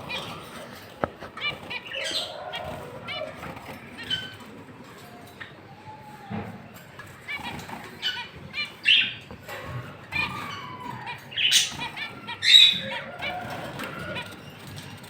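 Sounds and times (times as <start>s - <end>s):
lovebirds squawking and chirping: 0.0s - 15.0s.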